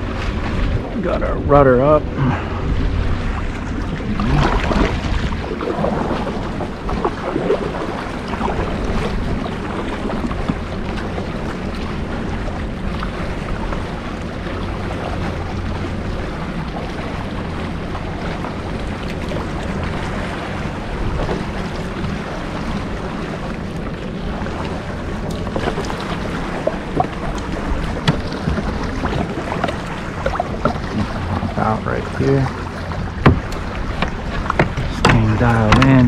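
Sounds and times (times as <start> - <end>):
small waves lapping at shore: 0.0 - 36.0
wind buffeting microphone: 0.0 - 36.0.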